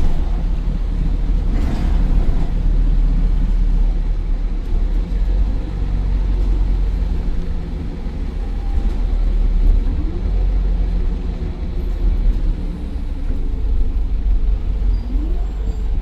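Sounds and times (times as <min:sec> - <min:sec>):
diesel bus engine rumbling: 0:00.0 - 0:16.0.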